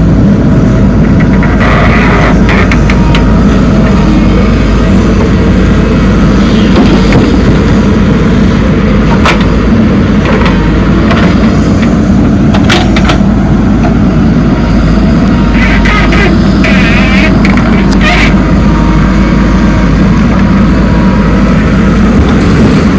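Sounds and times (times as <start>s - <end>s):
diesel engines running: 0.0s - 22.9s.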